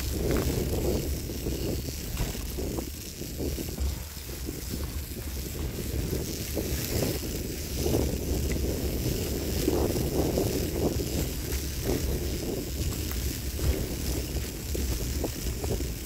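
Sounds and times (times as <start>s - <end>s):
bicycle tyres crunching dry leaves: 0.0s - 16.0s
wind buffeting microphone: 0.0s - 16.0s.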